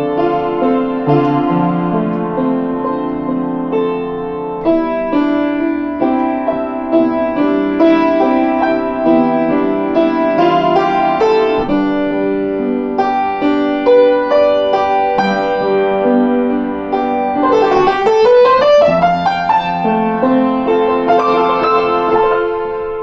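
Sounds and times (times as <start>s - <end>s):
piano notes ringing: 0.0s - 23.0s.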